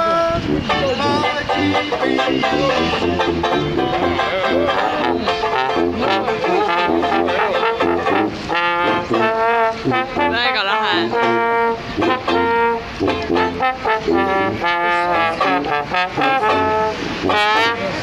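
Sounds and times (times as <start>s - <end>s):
pulsing tuba bass: 0.0s - 18.0s
trombone held notes: 0.0s - 18.0s
banjo strumming: 0.6s - 18.0s.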